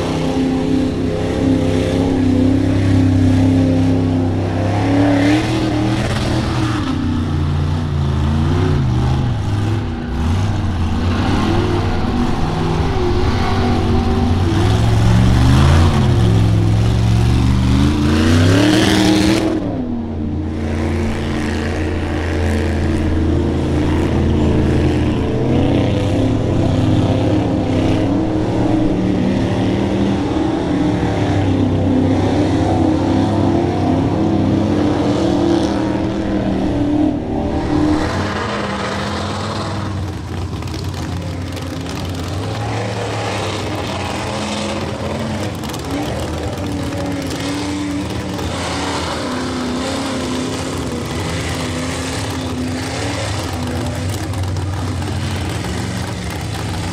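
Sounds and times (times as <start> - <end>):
truck engine revving hard: 0.0 - 56.9.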